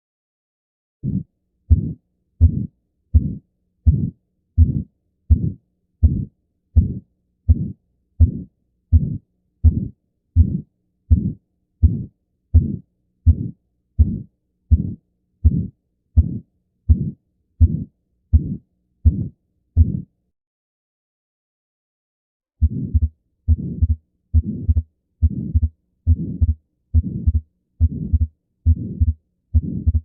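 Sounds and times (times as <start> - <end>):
heartbeat through stethoscope: 1.0 - 20.1, 22.6 - 30.0.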